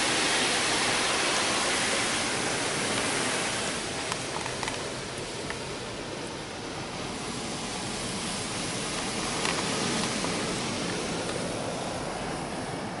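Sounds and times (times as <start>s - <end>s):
water spray hissing on car: 0.0s - 13.0s.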